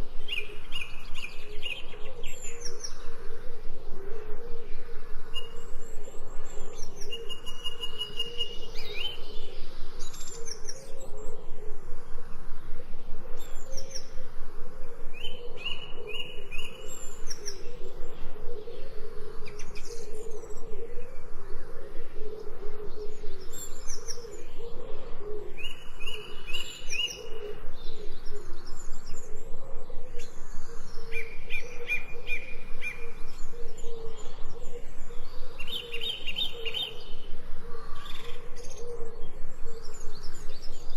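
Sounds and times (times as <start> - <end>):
birds chirping and calling: 0.0 - 12.4, 13.0 - 40.9
low pulsing background chorus: 0.0 - 40.9.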